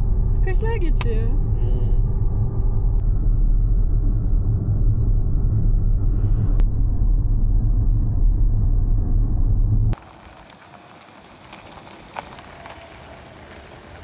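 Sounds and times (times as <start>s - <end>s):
road noise inside moving vehicle: 0.0s - 14.0s.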